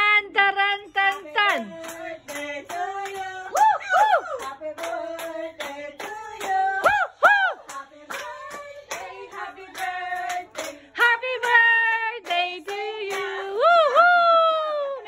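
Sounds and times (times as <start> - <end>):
group singing a celebration song: 0.4 - 15.0
hands clapping in time: 1.1 - 13.4.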